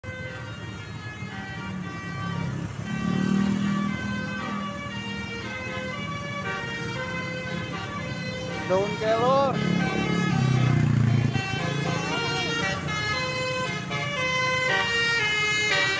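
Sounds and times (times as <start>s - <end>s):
multi-tone bus horn melody: 0.0s - 15.9s
road traffic hum: 0.0s - 15.9s.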